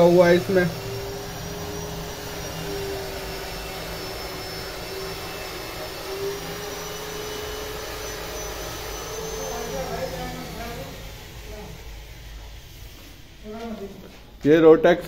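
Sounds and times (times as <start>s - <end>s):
packing machine hum and whine: 0.0s - 14.4s.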